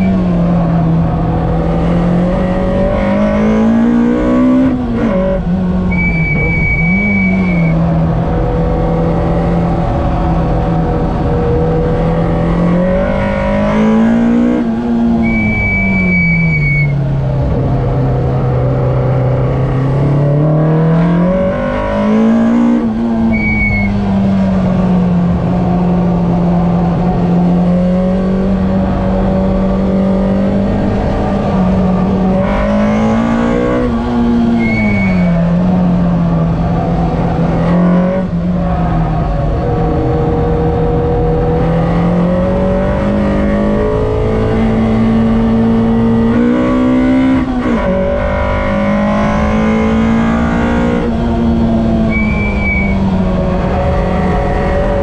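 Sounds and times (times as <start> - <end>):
car engine revving in cabin: 0.0 - 55.0.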